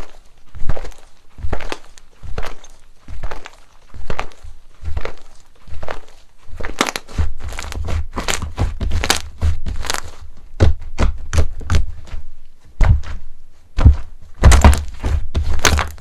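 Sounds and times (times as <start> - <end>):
soft low thuds: 0.0 - 16.0.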